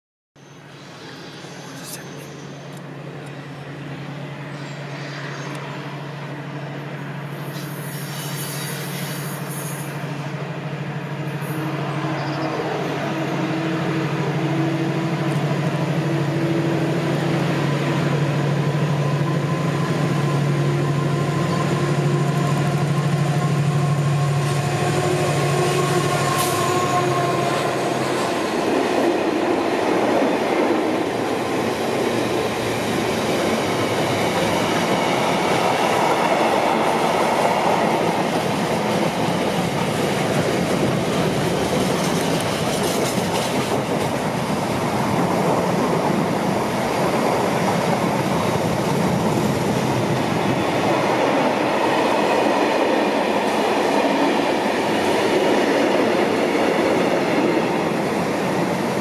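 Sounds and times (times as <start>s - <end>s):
diesel locomotive engine drone: 0.4s - 59.0s
wagon wheels rumbling on rail: 6.7s - 59.0s.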